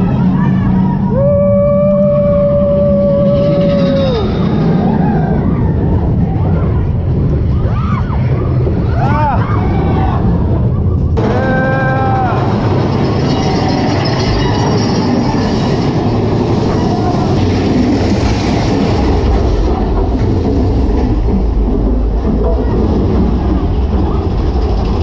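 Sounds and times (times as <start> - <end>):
roller coaster wheels rumbling on track: 0.0 - 25.0.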